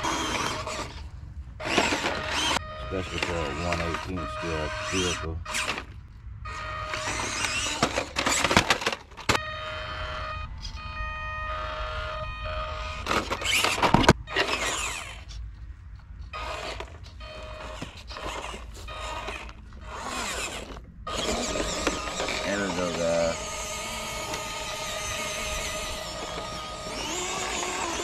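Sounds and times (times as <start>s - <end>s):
toy car electric motor whirring: 0.0s - 15.4s, 16.2s - 28.0s.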